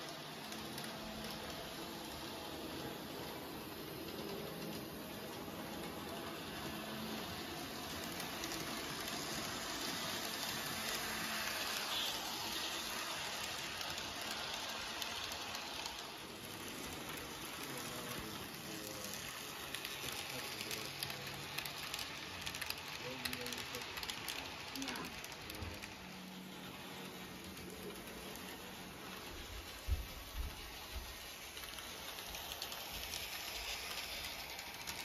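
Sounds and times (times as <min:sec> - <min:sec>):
model train motor whir: 0:00.0 - 0:35.0.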